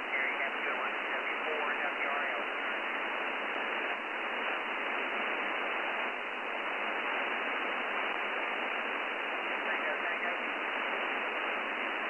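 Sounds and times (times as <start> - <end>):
radio band noise hiss: 0.0 - 12.0.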